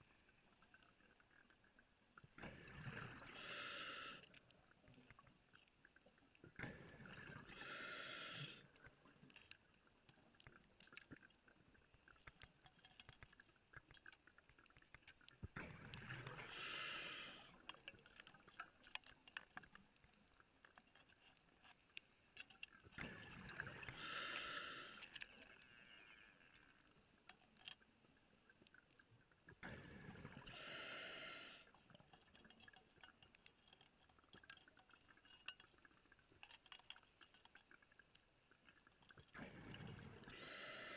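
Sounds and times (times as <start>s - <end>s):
faint crackle of clicks: 0.0s - 40.9s.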